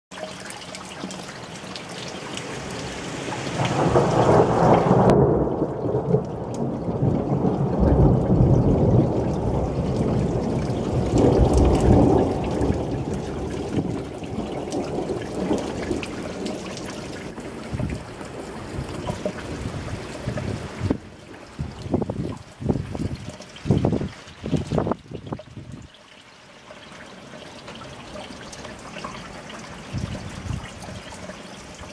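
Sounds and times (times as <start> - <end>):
rain splashing into puddles: 0.1 - 31.9.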